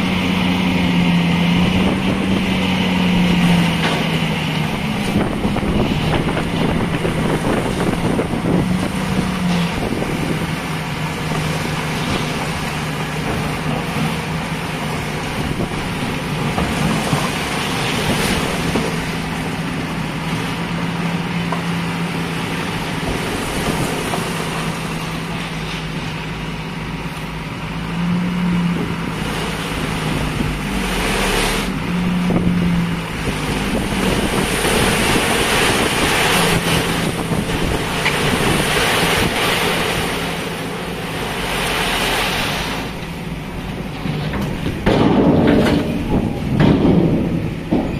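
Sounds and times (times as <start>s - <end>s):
diesel truck engine revving: 0.0s - 47.9s
soil load being dumped: 0.0s - 47.9s.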